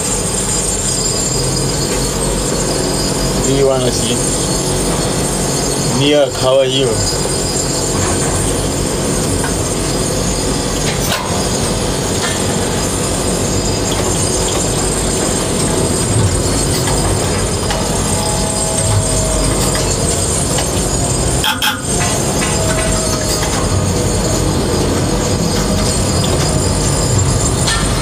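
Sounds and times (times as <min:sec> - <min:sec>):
crane machinery rumbling: 0:00.0 - 0:28.0.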